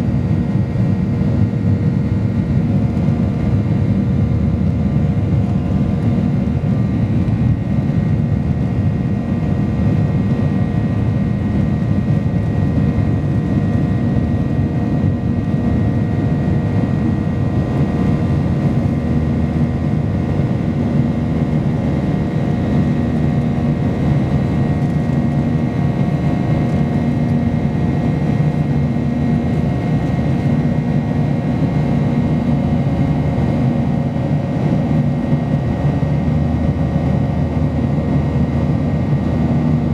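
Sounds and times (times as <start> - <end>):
jet engines heard in cabin: 0.0 - 39.9.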